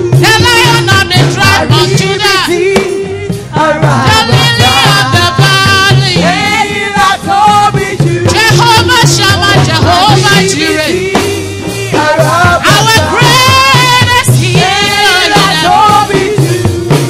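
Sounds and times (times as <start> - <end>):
gospel band playing: 0.0 - 17.0.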